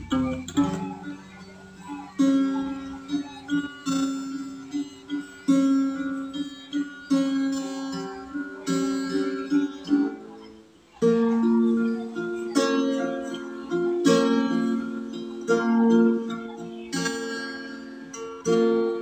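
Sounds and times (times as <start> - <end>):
acoustic guitar fingerpicked: 0.0 - 19.0.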